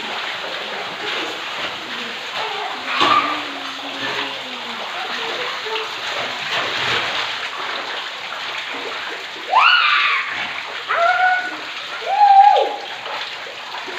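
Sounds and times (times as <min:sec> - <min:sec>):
rain pouring on tiled floor: 0:00.0 - 0:13.9
splashing in shallow water: 0:00.0 - 0:13.9.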